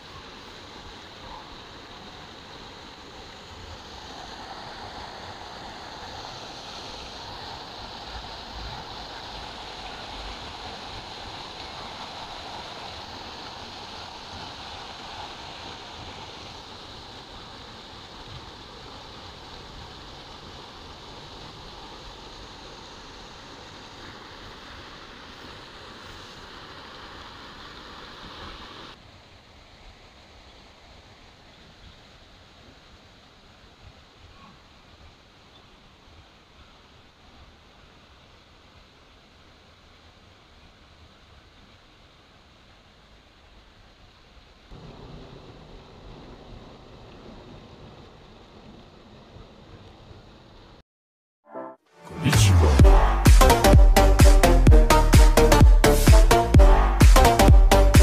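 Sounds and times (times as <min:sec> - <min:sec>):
flowing water rushing: 0:00.0 - 0:50.8, 0:52.0 - 0:58.0.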